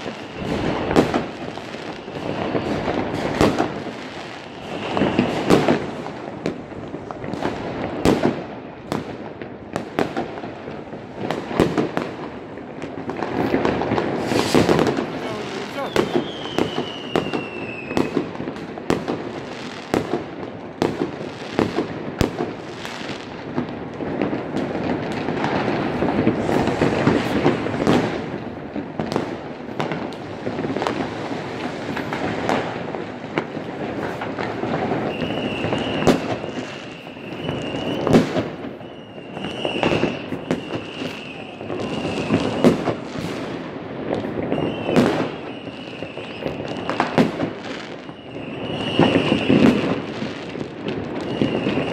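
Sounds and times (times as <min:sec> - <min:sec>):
firecrackers and rocket bursts: 0:00.0 - 0:51.9
fireworks whistling: 0:00.0 - 0:51.9.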